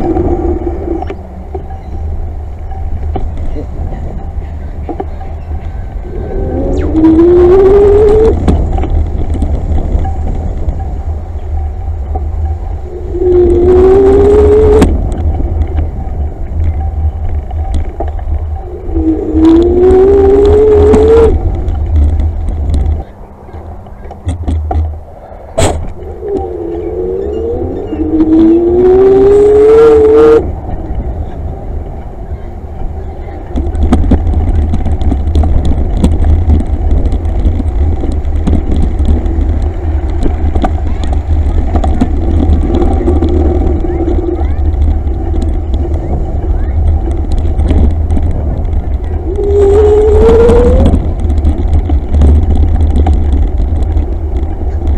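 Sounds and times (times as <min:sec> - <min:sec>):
camera rattling over gravel: 0:00.0 - 0:31.4, 0:32.4 - 0:54.9
low rumble of travel: 0:00.0 - 0:54.9.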